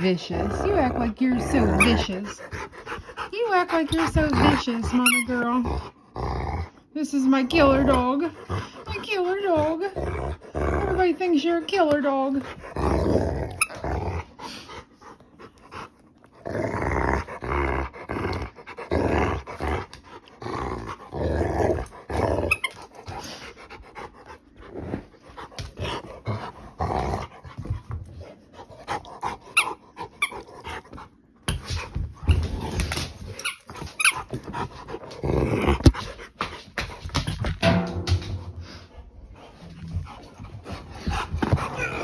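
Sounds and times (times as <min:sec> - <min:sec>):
dog play-growling: 0:00.0 - 0:42.0.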